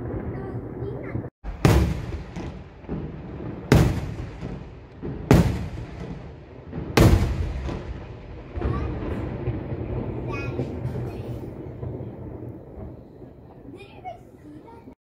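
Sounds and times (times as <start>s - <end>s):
firework shells bursting: 1.4s - 14.0s.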